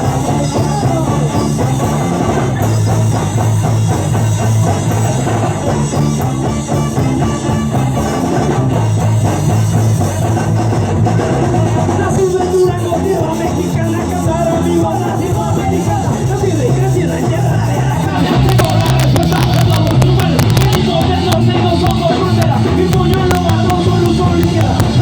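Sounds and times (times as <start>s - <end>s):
ska band playing live: 0.0s - 25.0s.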